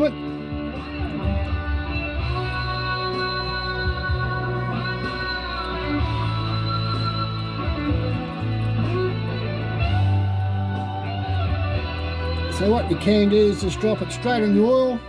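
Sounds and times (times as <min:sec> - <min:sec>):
electric guitar rock music: 0:00.0 - 0:15.0
steady bass line: 0:00.0 - 0:15.0.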